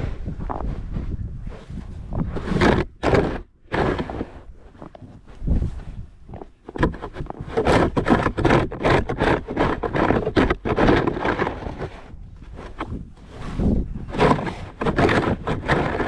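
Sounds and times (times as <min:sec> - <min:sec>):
snow shovel scraping pavement: 0:01.6 - 0:05.8, 0:06.5 - 0:16.0.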